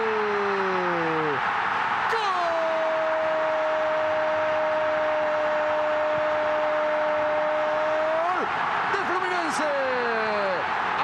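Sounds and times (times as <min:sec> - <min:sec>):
stadium crowd cheering: 0:00.0 - 0:11.0.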